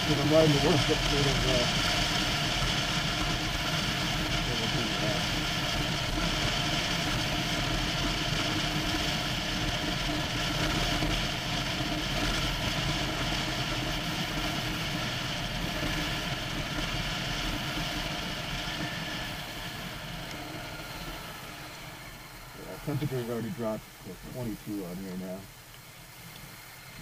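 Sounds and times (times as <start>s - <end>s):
motorcycle engine running: 0.0s - 27.0s
road and air noise hiss: 0.0s - 27.0s.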